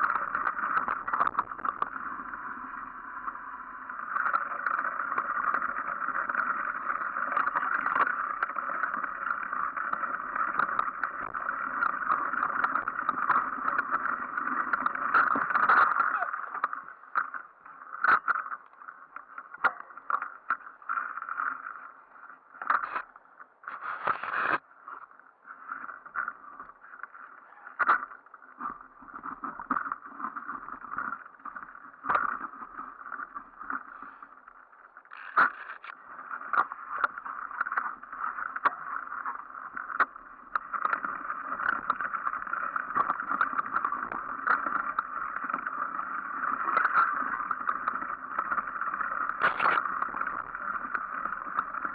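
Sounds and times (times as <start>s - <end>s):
bike tyres rolling on trail: 0.0s - 18.5s, 28.2s - 51.9s.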